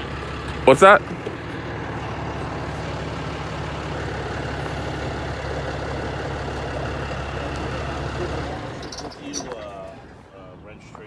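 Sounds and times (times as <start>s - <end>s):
vehicle engine idling: 0.0s - 10.6s.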